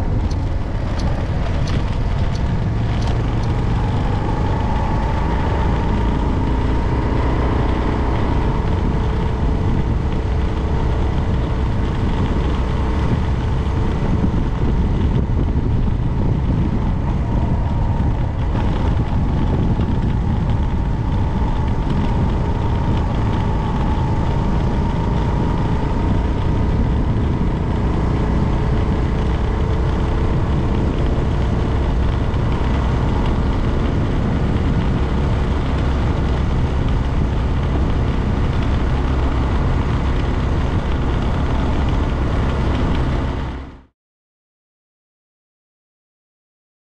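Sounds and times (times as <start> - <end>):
vehicle engine rumbling: 0.0 - 43.9.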